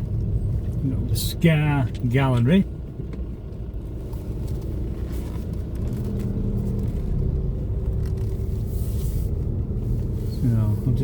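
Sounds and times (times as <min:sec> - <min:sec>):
car engine humming: 0:00.0 - 0:11.0
road rumble: 0:00.0 - 0:11.0.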